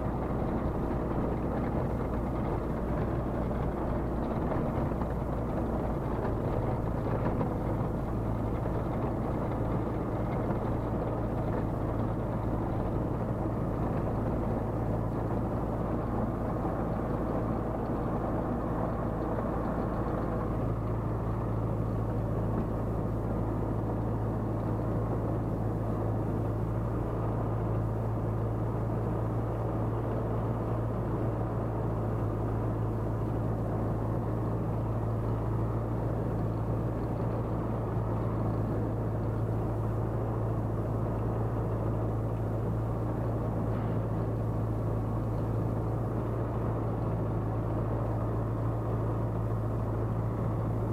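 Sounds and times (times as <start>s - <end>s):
light aircraft engine droning: 0.0s - 50.9s.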